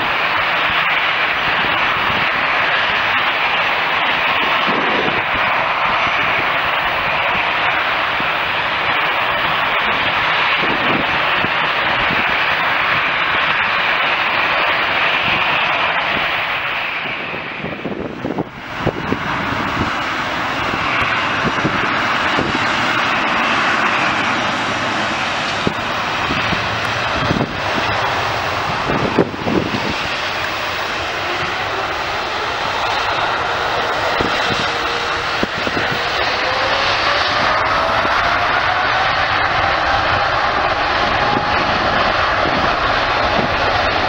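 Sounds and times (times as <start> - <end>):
airliner engines roaring: 0.0 - 44.0.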